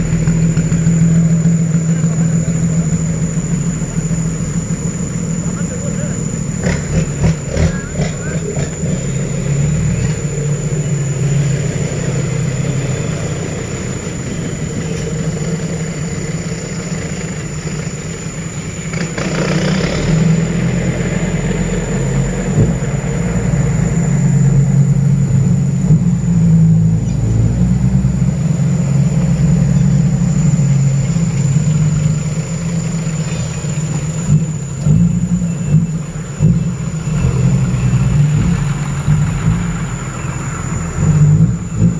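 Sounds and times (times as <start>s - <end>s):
dump truck diesel engines: 0.0s - 41.9s.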